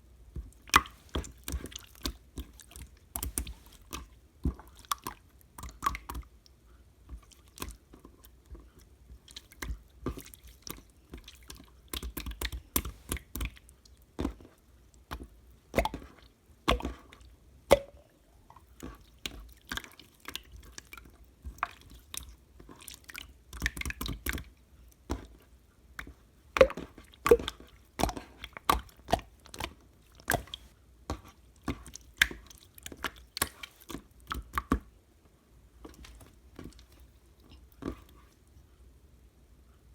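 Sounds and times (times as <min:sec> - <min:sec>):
slime squelching by hand: 0:00.5 - 0:35.0, 0:35.8 - 0:38.5.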